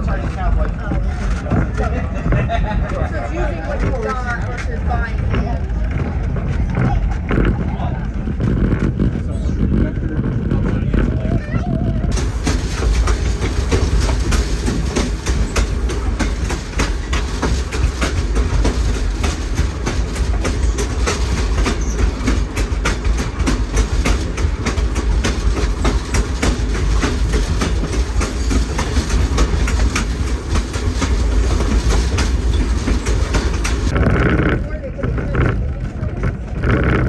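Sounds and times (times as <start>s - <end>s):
low train rumble: 0.0s - 37.0s
train wheels clicking over rail joints: 0.0s - 37.0s.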